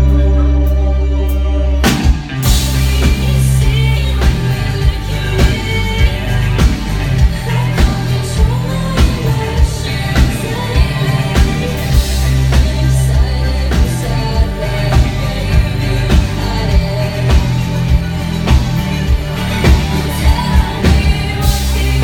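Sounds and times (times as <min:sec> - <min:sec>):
rock band playing: 0:00.0 - 0:22.0
woman singing: 0:02.5 - 0:22.0.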